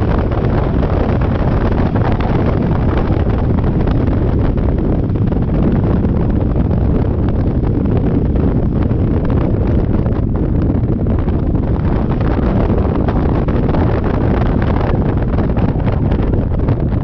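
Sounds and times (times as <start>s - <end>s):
wind rush buffeting microphone: 0.0s - 17.0s.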